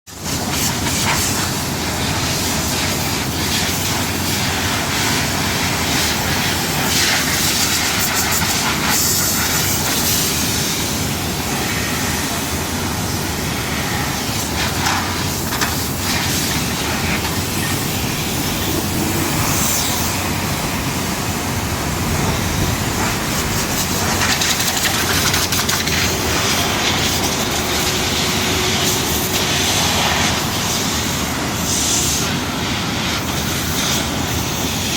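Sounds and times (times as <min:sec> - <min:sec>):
steady mechanical hiss: 0:00.2 - 0:34.9.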